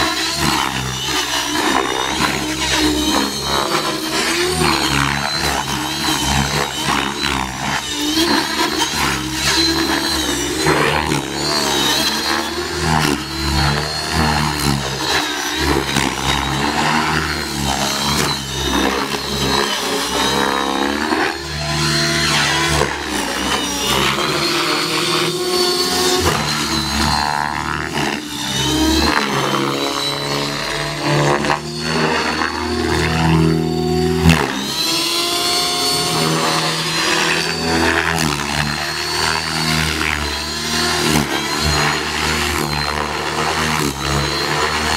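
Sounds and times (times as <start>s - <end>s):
model helicopter motor and rotor whine: 0.0s - 44.9s.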